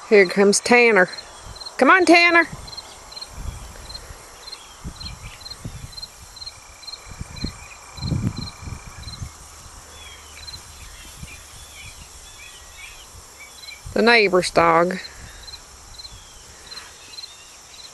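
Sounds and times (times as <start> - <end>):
insects chirping: 0.0 - 17.9.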